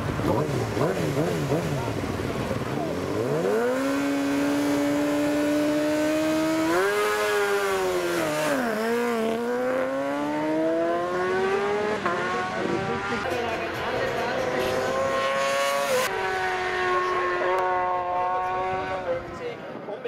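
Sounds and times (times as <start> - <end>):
superbike engine at high revs: 0.0 - 19.3.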